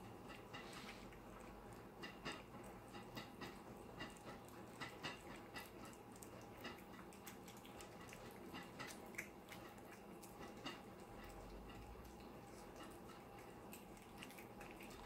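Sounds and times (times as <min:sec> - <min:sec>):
cats chewing and lapping food: 0:00.0 - 0:15.0.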